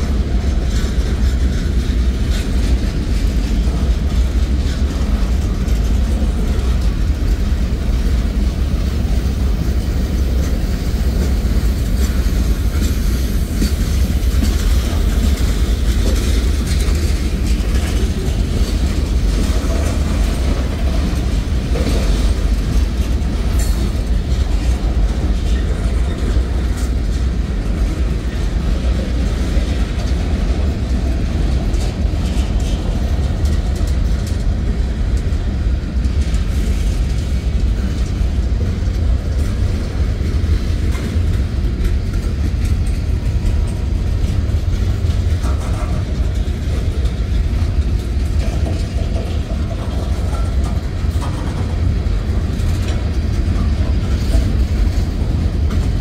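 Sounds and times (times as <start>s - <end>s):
freight train wheels rumbling: 0.0s - 56.0s
wheel clatter over rail joints: 0.0s - 56.0s.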